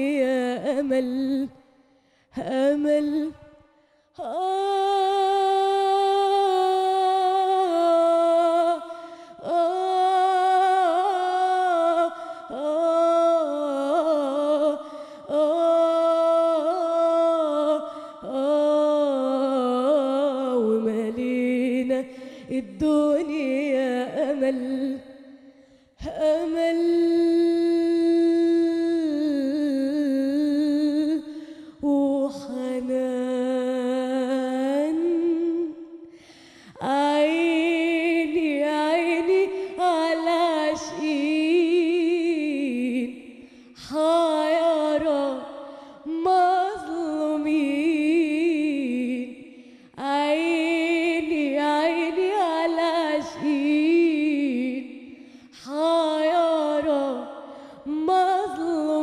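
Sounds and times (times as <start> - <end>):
woman singing into a microphone: 0.0 - 59.0.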